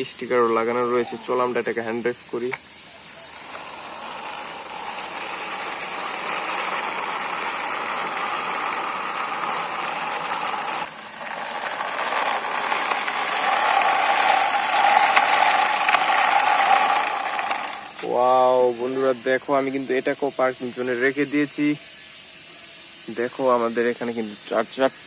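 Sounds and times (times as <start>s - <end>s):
steady humming note: 0.0s - 25.0s
toy car wheels rolling: 2.4s - 25.0s.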